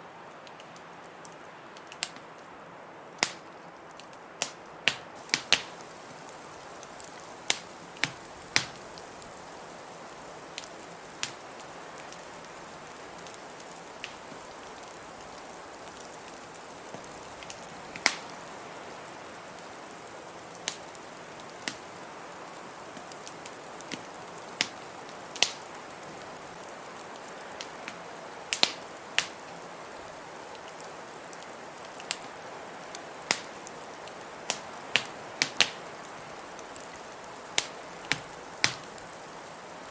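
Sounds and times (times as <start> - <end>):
wood fire crackling: 0.2 - 39.9
sharp pops of burning wood: 0.4 - 2.4, 3.2 - 18.8, 19.4 - 39.4
blizzard wind hissing: 5.1 - 39.9.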